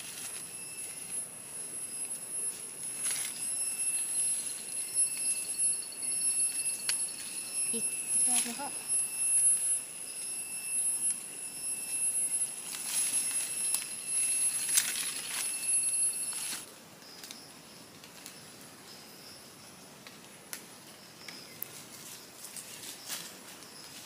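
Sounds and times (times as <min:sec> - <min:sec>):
rustling dry leaves and twigs: 0:00.0 - 0:19.2, 0:20.0 - 0:24.0
insects droning: 0:00.0 - 0:24.0.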